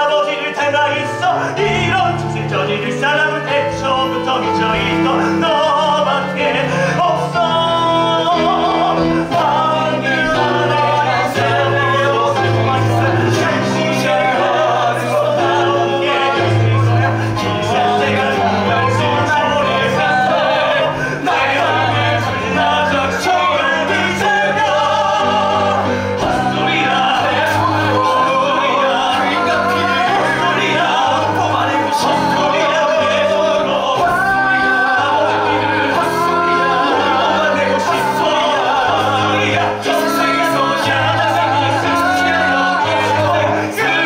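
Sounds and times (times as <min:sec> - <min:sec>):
instrumental accompaniment: 0:00.0 - 0:44.0
men singing: 0:00.0 - 0:44.0.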